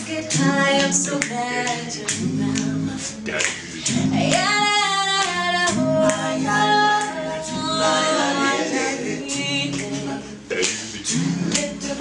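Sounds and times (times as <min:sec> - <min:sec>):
high lead voice singing: 0:00.0 - 0:12.0
low backing voices: 0:00.0 - 0:12.0.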